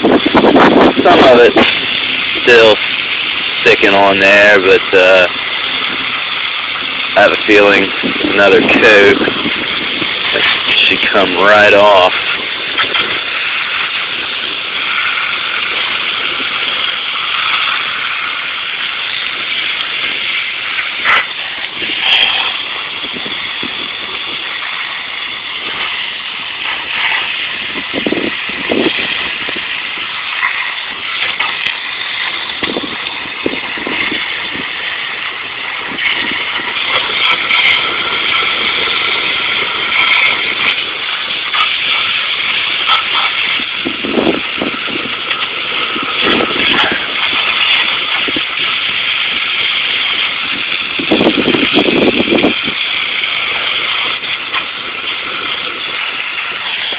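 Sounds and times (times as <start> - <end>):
pressure washer spraying: 0.0 - 56.9.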